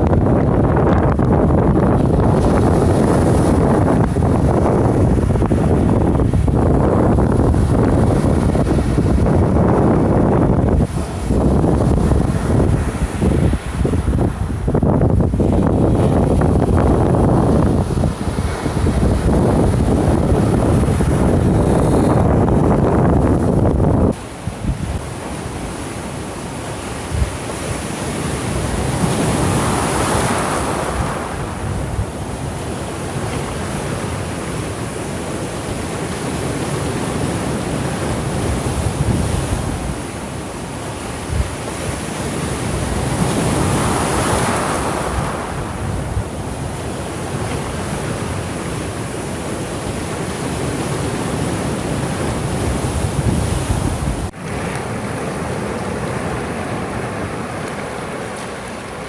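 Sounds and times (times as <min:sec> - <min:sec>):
larger waves breaking: 0:00.0 - 0:59.0
wind rumble on microphone: 0:00.0 - 0:59.0
small waves washing on shore: 0:01.1 - 0:59.0.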